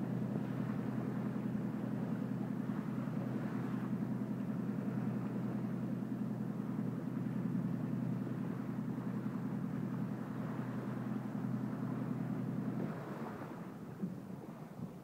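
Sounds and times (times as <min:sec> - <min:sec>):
motorboat engine humming: 0:00.0 - 0:15.0
water rushing along hull: 0:00.0 - 0:15.0.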